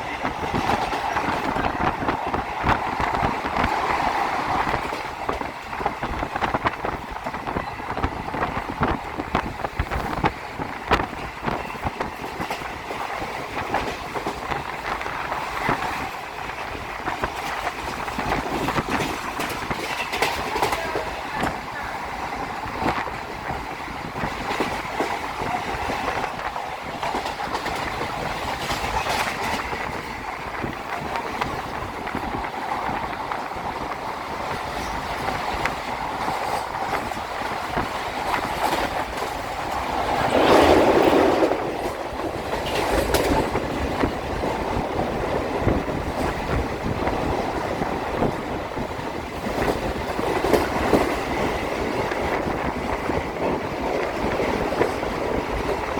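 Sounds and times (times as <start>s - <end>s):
train rumbling on track: 0.0s - 55.9s
wheels clacking over rail joints: 0.0s - 55.9s.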